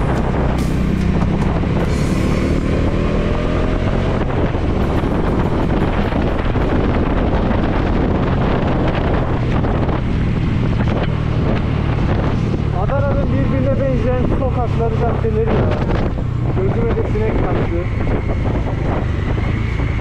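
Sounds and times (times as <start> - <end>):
motorcycle engine accelerating: 0.0 - 20.0
wind buffeting microphone: 0.0 - 20.0.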